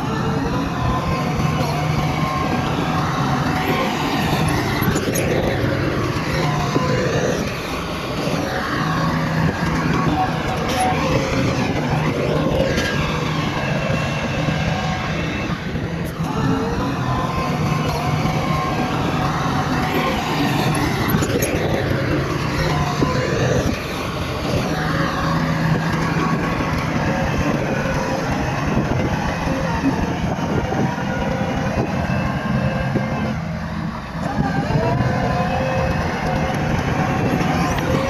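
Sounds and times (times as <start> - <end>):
bulldozer diesel engine: 0.0 - 38.0.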